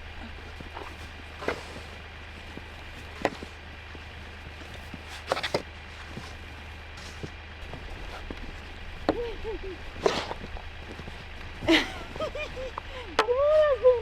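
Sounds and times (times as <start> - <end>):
snow shovel crunching snow: 0.0 - 13.0
low hum: 0.0 - 14.0
shovel scraping: 0.2 - 9.2, 9.8 - 12.8.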